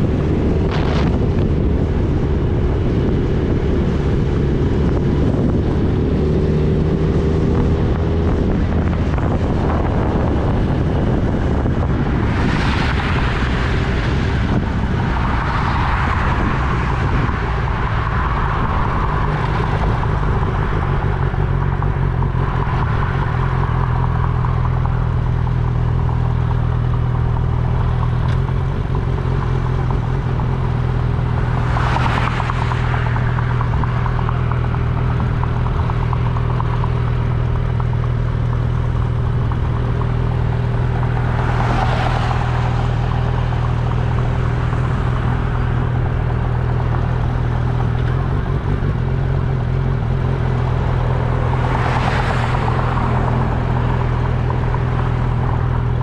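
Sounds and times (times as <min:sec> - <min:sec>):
motorcycle engine cruising: 0:00.0 - 0:56.0
road and wind noise: 0:00.0 - 0:56.0.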